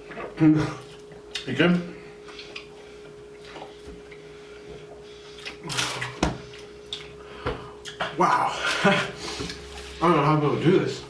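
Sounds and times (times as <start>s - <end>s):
people eating: 0.0s - 10.4s
steady low hum: 0.0s - 11.0s.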